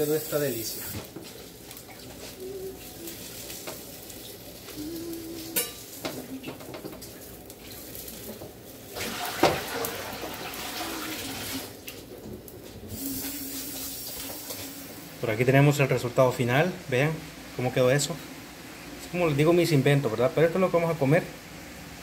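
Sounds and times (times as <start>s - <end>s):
food frying in a pan: 0.0s - 22.0s.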